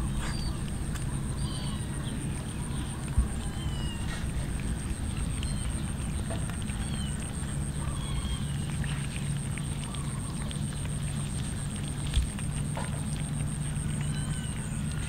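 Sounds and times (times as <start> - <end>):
cats chewing and licking: 0.0 - 15.0
steady low hum: 0.0 - 15.0.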